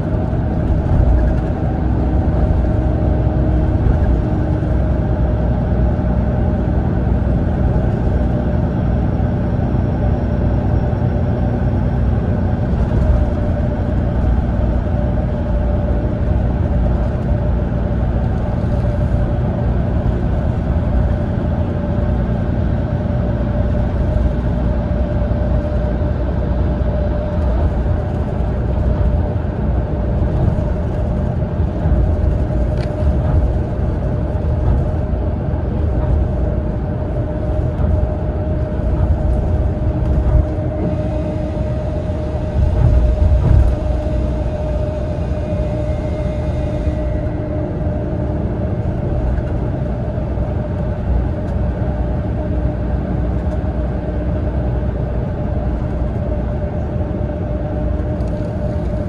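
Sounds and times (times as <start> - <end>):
tyre and road rumble: 0.0 - 52.4
bus engine drone: 0.0 - 59.0
constant whine: 0.0 - 59.0.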